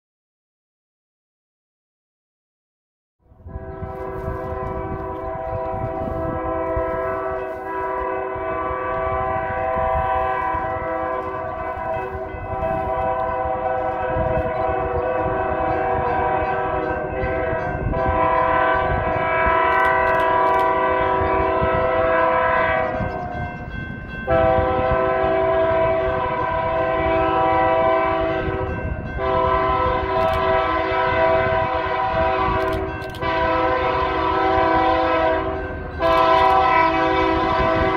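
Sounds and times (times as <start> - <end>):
low train rumble: 3.2 - 37.9
locomotive air horn blasts: 3.4 - 23.4, 24.2 - 37.9.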